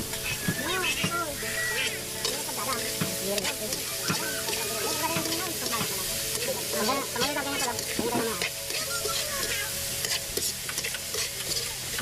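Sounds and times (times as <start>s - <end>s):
meat sizzling in a wok: 0.0s - 12.0s
metal spatula scraping pan: 0.1s - 12.0s.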